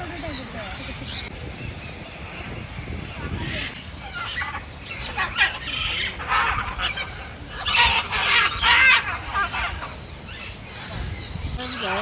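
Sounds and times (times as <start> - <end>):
birds giving rough calls: 2.2 - 12.0.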